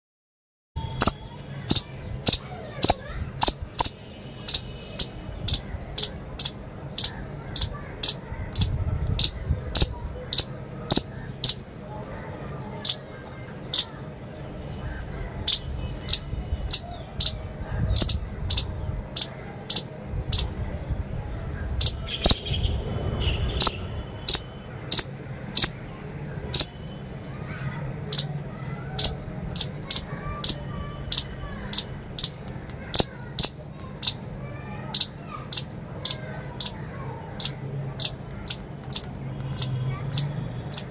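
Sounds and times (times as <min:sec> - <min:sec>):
squirrel chip calls: 0:00.8 - 0:11.8, 0:12.4 - 0:14.0, 0:14.8 - 0:20.6, 0:21.6 - 0:27.0, 0:28.0 - 0:40.9.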